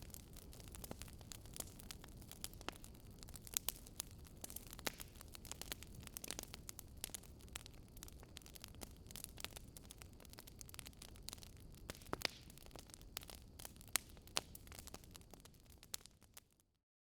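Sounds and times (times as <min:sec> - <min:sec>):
wood fire crackling: 0:00.0 - 0:16.6.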